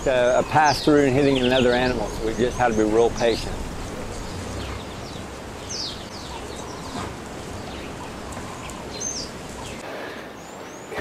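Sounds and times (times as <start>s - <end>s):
steady rustling hiss: 0.0s - 11.0s.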